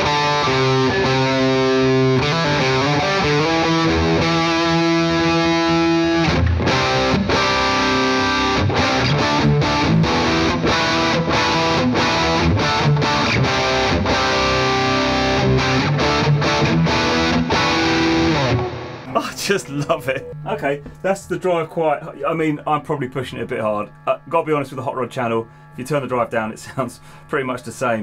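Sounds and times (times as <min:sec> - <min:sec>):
distorted electric guitar chords: 0:00.0 - 0:27.3.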